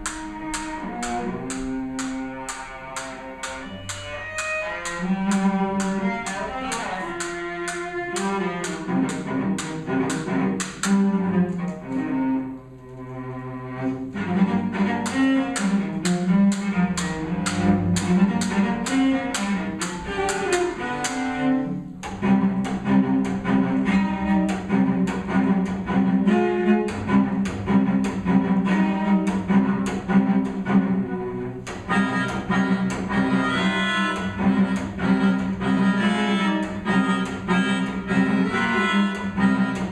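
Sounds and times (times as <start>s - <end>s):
cello percussive bow strokes: 0.0s - 39.9s.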